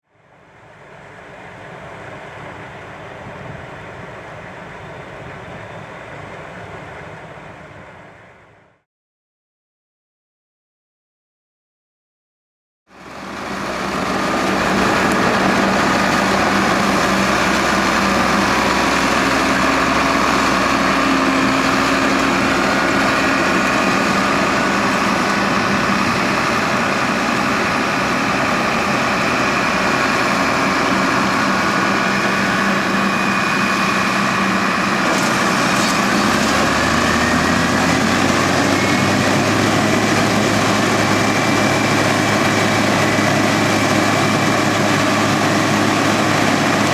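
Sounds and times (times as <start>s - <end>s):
combine harvester drone: 0.1s - 8.8s, 12.9s - 46.9s.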